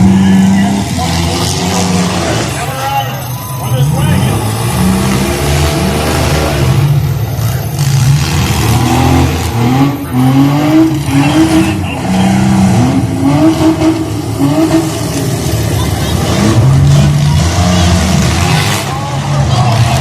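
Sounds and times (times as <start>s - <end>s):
car engines revving hard: 0.0s - 20.0s
rumble of engines running: 0.0s - 20.0s.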